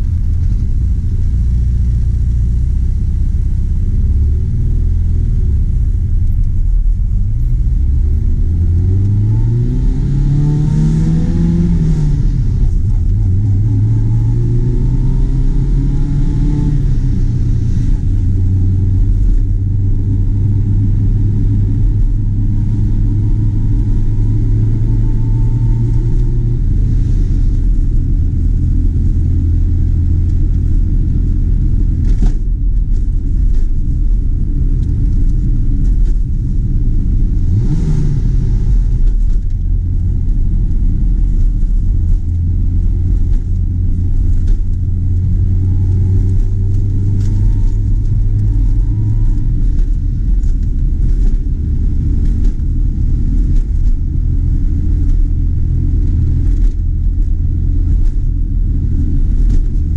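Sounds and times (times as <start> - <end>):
road rumble: 0.0 - 59.9
car engine revving: 3.8 - 59.8.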